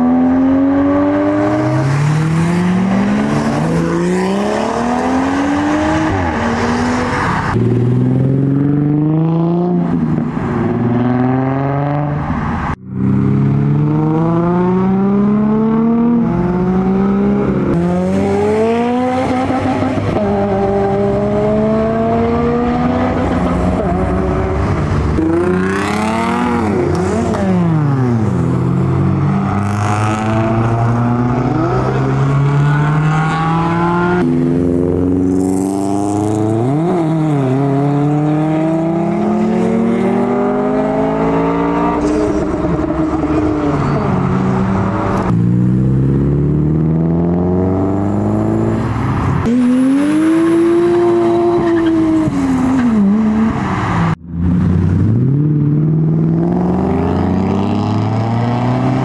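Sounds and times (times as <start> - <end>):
cars accelerating away: 0.0 - 59.0.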